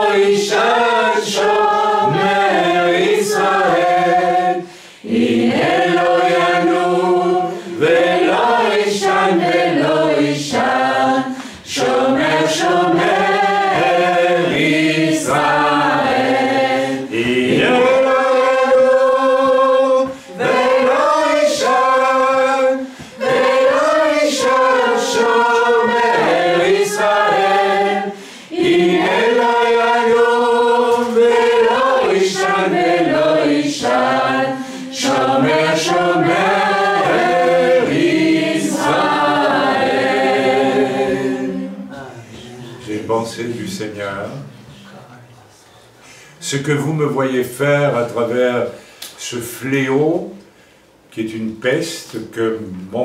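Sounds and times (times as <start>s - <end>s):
group singing worship song: 0.0s - 46.6s.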